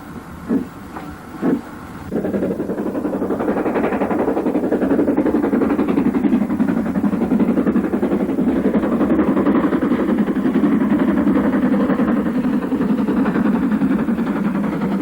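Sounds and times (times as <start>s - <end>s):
steam locomotive exhaust beat: 0.0s - 15.0s.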